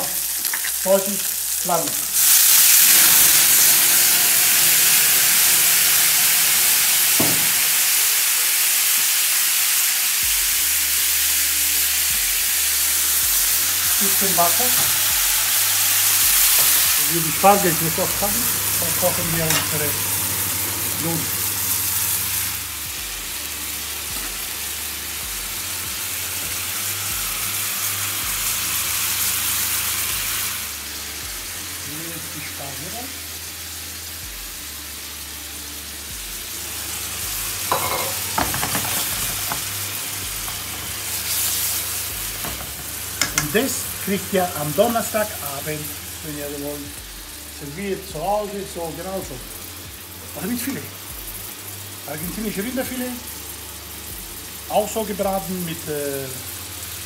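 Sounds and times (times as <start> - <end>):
hissing sizzle of steam: 0.0 - 57.0.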